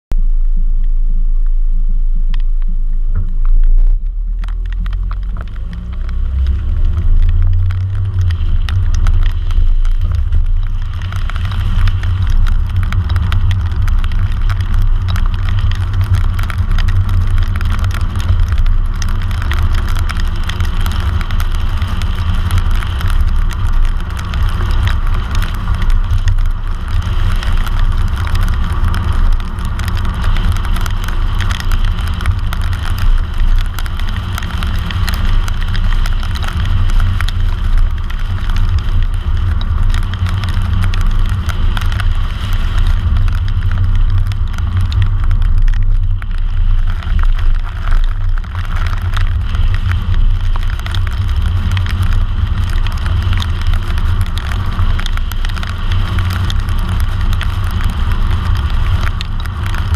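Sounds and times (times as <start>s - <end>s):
car rumbling on wet road: 0.1s - 59.9s.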